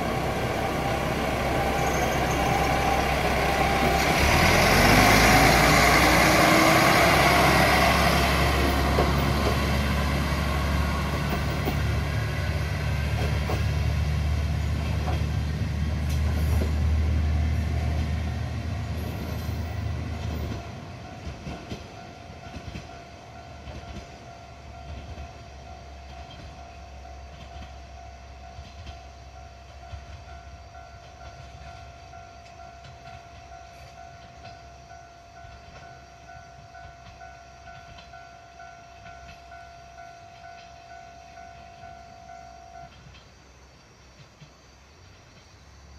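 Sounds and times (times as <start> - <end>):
diesel railcar engine: 0.0 - 45.9
rail noise: 0.0 - 45.9.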